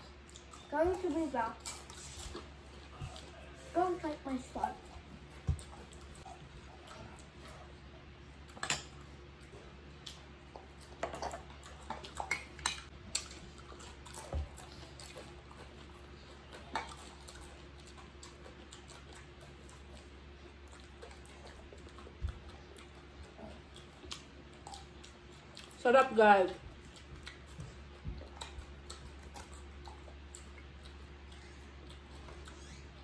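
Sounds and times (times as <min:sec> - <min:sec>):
eating sounds: 0:00.0 - 0:33.0
steady low hum: 0:00.0 - 0:33.0.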